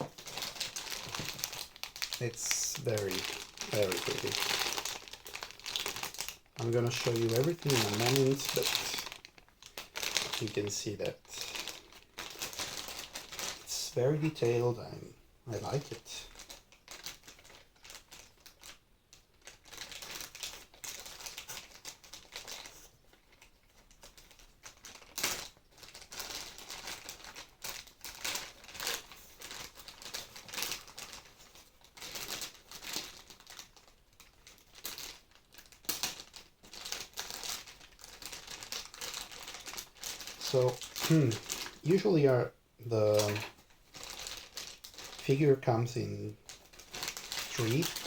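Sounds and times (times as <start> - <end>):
plastic packaging crinkling: 0.0 - 48.0.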